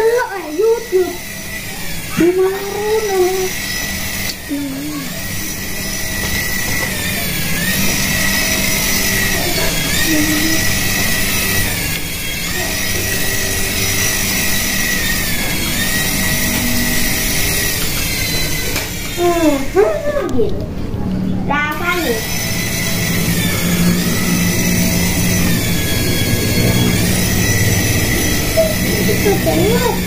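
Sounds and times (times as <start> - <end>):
toy helicopter motor whining: 0.0 - 20.7, 21.5 - 30.0.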